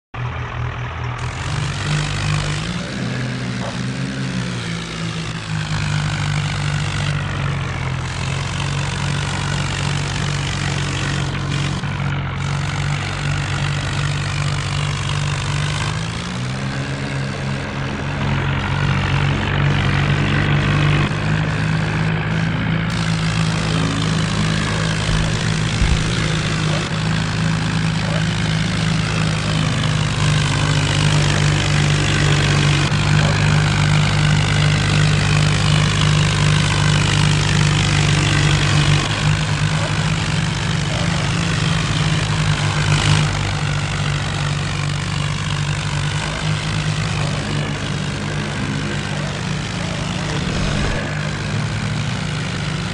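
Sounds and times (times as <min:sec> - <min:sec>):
tractor diesel engine running: 0:00.2 - 0:52.9.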